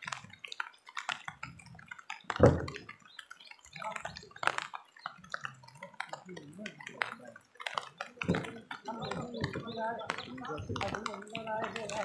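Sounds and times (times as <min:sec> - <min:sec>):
water splashing and dripping: 0:00.0 - 0:12.0.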